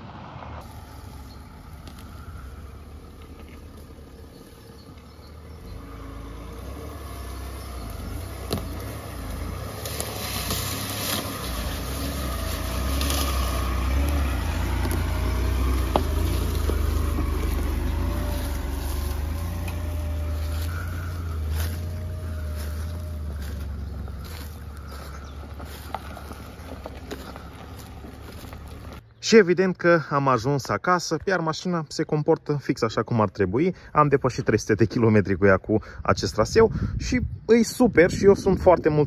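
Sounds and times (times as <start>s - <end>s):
wind and tyre noise: 0.0s - 29.3s, 30.5s - 39.0s
car engine and road rumble: 0.0s - 39.0s.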